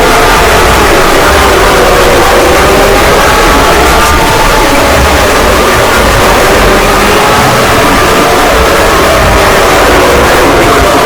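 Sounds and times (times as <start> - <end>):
distorted emergency alarm tones: 0.0 - 11.0
harsh noise: 0.0 - 11.0.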